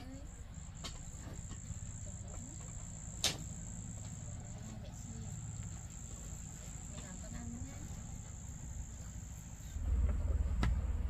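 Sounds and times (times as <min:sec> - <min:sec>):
crickets chirping: 0:00.0 - 0:11.0
low steady rumble: 0:00.0 - 0:11.0.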